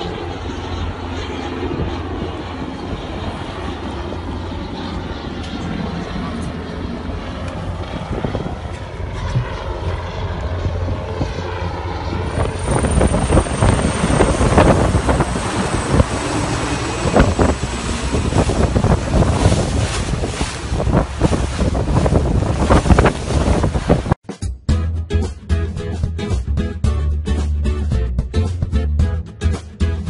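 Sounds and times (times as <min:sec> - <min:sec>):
engine drone: 0:00.0 - 0:24.2
wind buffeting microphone: 0:00.0 - 0:24.2.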